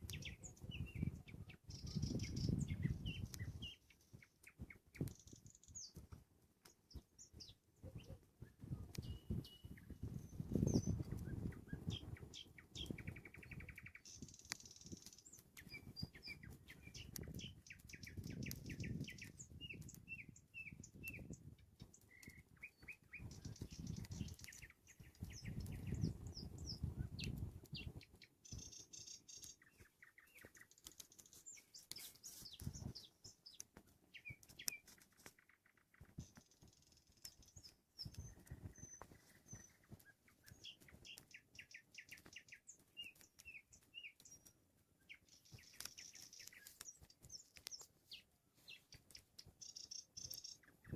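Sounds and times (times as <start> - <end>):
nightingale singing: 0.0 - 50.9.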